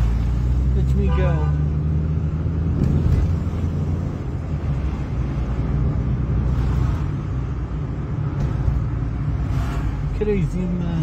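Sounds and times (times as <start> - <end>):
car interior engine rumble: 0.0 - 11.0.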